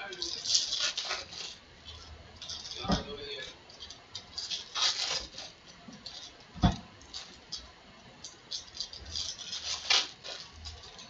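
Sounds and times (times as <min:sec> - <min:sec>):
foil wrapper crinkling: 0:00.0 - 0:06.4, 0:08.2 - 0:11.0.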